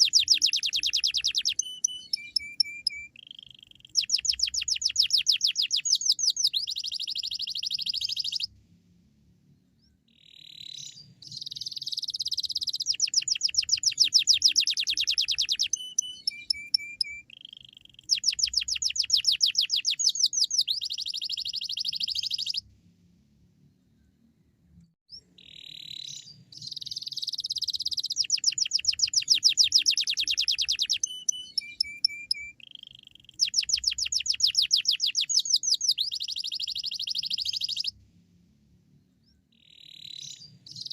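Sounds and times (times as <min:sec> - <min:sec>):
canary singing trills: 0:00.0 - 0:08.5, 0:10.1 - 0:22.7, 0:25.1 - 0:38.0, 0:39.5 - 0:40.9.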